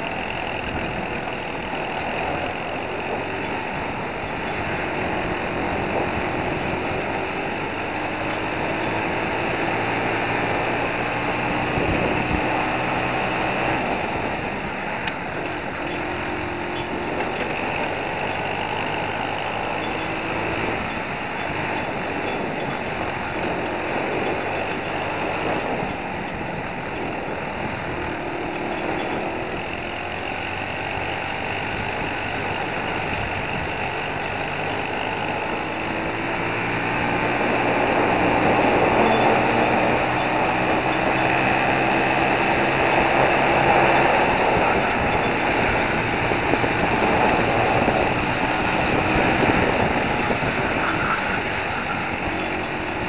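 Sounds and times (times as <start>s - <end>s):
kart engine racing: 0.0s - 53.0s
wind and tyre noise: 0.0s - 53.0s.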